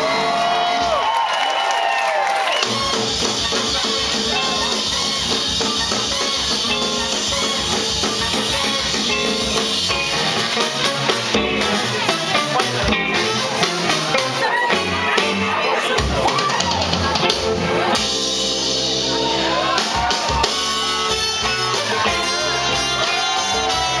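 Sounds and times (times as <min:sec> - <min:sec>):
live soul band: 0:02.6 - 0:24.0.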